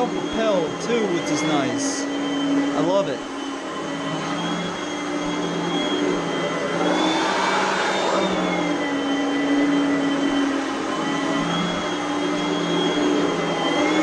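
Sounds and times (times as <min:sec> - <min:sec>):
upright vacuum running: 0:00.0 - 0:14.0.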